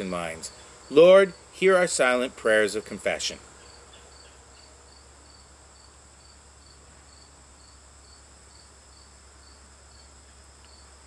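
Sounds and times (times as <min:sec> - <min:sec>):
continuous insect trill: 0:00.0 - 0:11.0
crickets chirping: 0:00.0 - 0:11.0.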